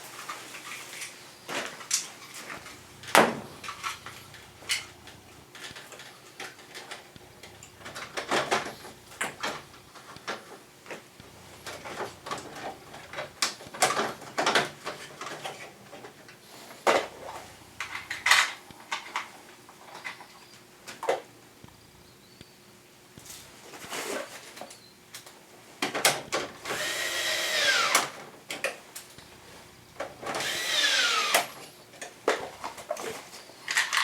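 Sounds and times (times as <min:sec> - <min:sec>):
air conditioner parts clicking and rattling: 0:00.0 - 0:34.0.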